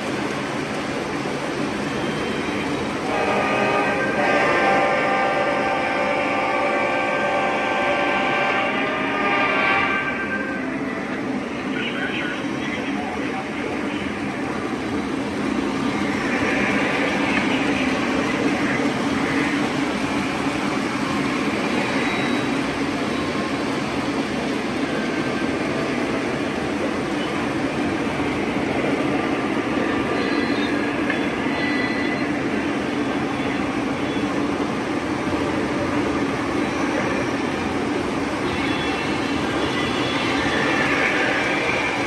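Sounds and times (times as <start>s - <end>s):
model train rumbling past: 0.0s - 42.0s.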